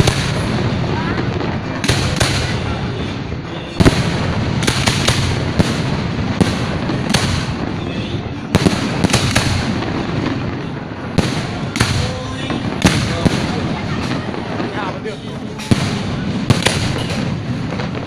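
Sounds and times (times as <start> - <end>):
fireworks bangs: 0.0 - 18.0
fireworks rumble and crackle: 0.0 - 18.0.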